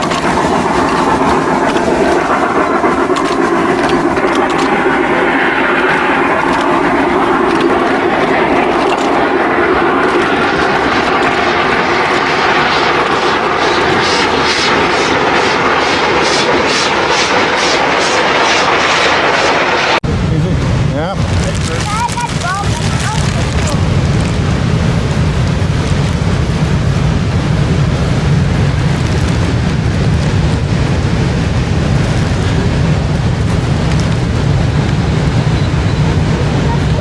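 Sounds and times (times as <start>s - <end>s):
steam locomotive exhaust beats: 0.0s - 37.0s.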